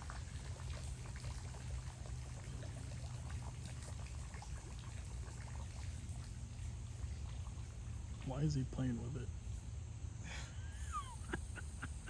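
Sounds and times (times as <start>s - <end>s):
water trickling and splashing: 0.0s - 9.8s
low steady rumble: 0.0s - 12.0s.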